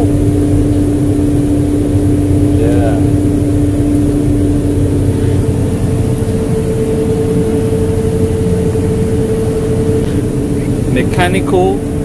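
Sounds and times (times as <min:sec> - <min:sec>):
held hum: 0:00.0 - 0:12.0
street sweeper engine and fan drone: 0:00.0 - 0:12.0.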